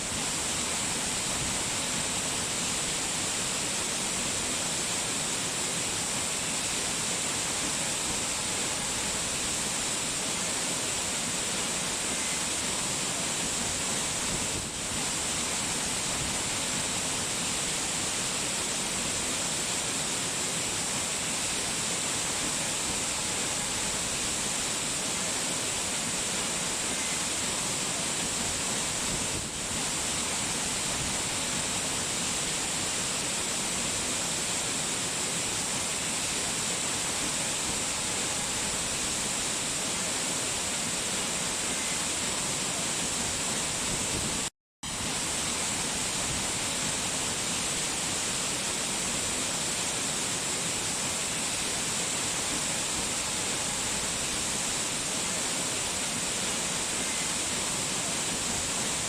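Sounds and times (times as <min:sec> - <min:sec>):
hiss of falling water: 0:00.0 - 0:59.0.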